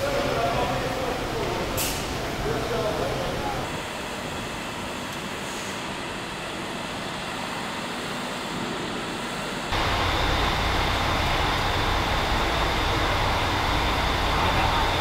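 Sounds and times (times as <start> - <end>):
industrial hiss and rumble: 0.0 - 15.0.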